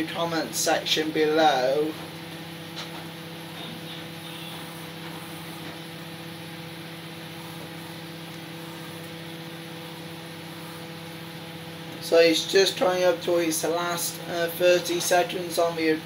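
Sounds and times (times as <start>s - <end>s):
microwave fan noise: 0.0s - 16.0s
microwave oven humming: 0.0s - 16.0s.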